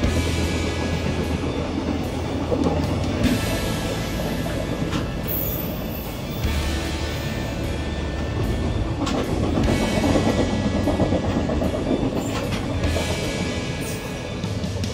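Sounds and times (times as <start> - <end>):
freight train wheels clattering: 0.0 - 14.9.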